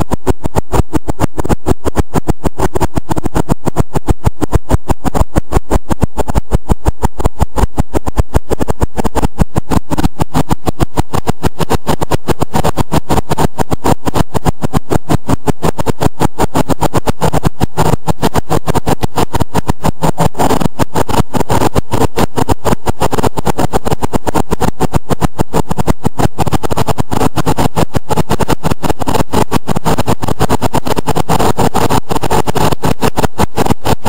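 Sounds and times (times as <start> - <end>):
tractor engine and mower pulsing: 0.0 - 29.6.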